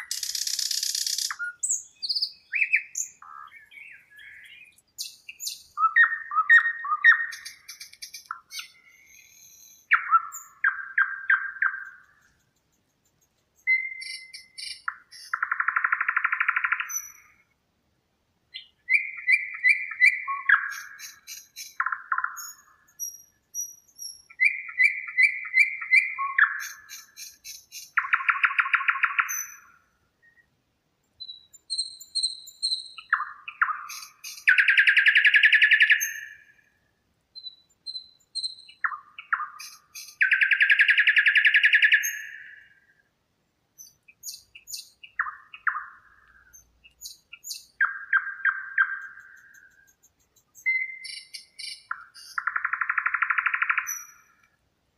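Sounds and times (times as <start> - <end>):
songbird singing buzzy trills: 0.0 - 17.6, 18.4 - 54.9.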